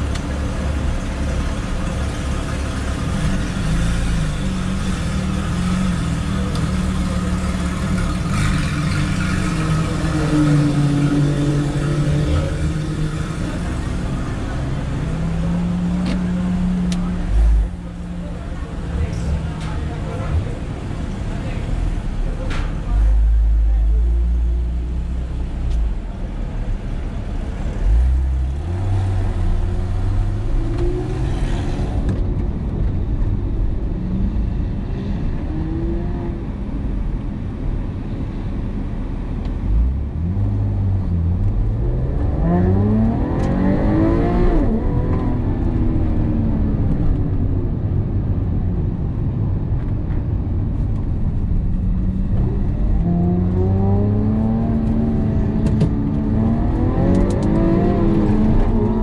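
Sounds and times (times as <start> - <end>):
car engine accelerating: 0.0 - 36.6, 39.3 - 48.4, 49.8 - 59.0
tyre and road noise: 0.0 - 59.0.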